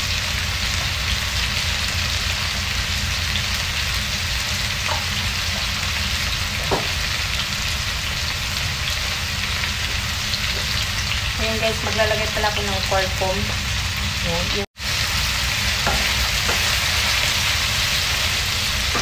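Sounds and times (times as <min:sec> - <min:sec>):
vegetables frying in a wok: 0:00.0 - 0:19.0.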